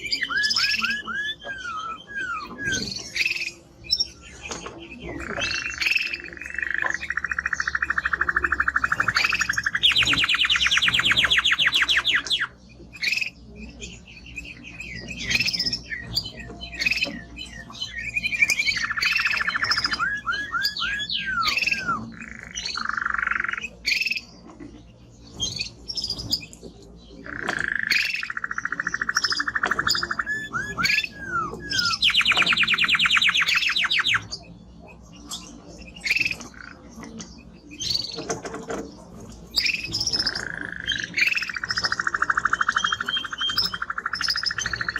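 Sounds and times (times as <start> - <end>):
canary singing trills: 0.0 - 44.9.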